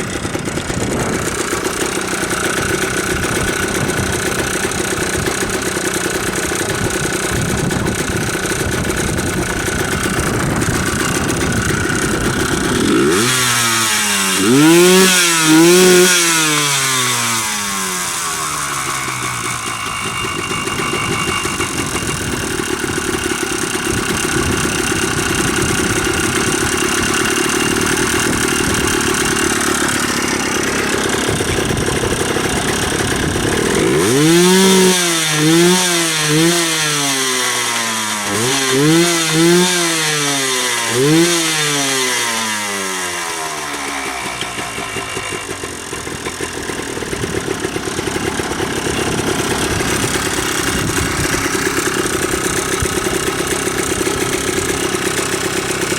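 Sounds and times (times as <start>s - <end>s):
engine throttle blips: 0.0s - 55.9s
two-stroke engine running: 0.0s - 55.9s.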